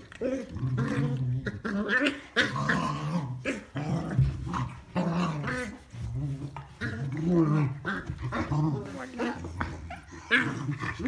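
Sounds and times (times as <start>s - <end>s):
dogs play growling: 0.0s - 11.0s.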